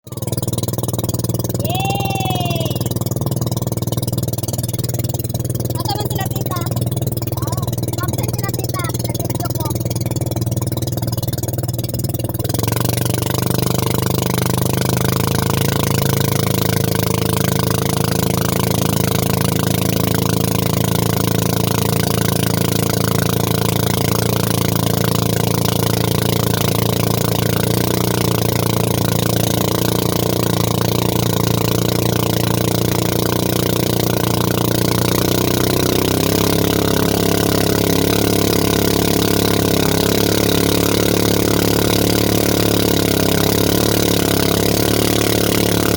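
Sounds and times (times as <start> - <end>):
boat motor running: 0.0 - 45.9.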